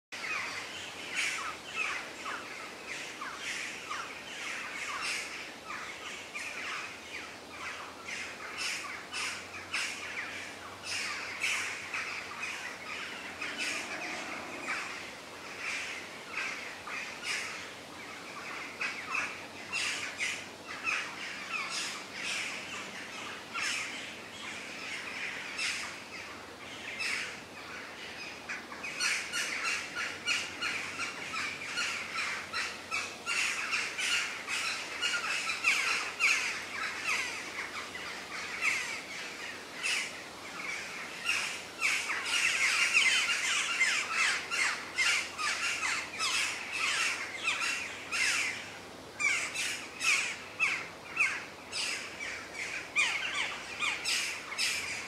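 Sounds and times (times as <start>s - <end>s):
birds chirping and calling: 0.2s - 55.0s.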